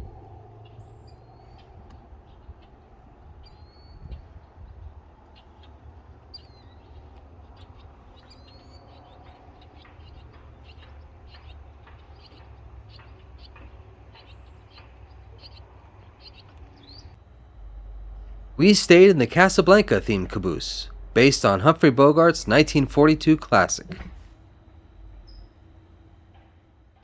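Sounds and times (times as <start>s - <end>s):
birds chirping: 0.0s - 27.0s
low steady rumble: 0.0s - 27.0s.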